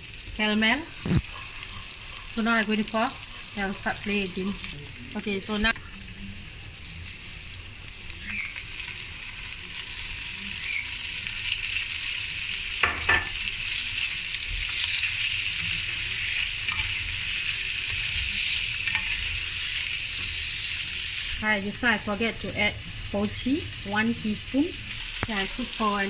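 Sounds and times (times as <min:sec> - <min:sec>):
food sizzling in a wok: 0:00.0 - 0:26.0.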